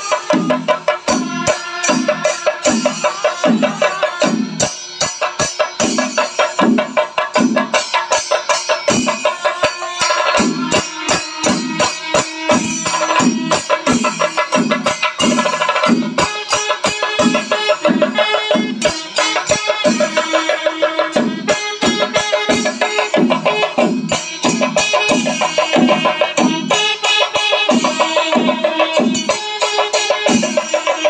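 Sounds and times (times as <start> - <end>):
drum beats: 0.0 - 31.0.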